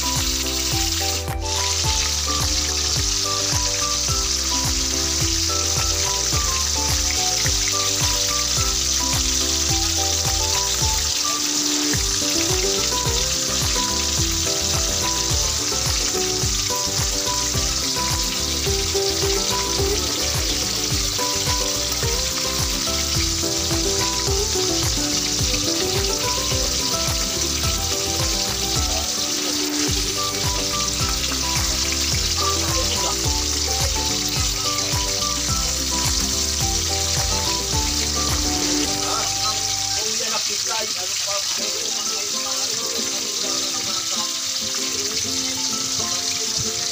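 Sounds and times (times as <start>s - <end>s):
background music: 0.0s - 40.8s, 41.5s - 46.9s
fish sizzling in hot oil: 0.0s - 46.9s.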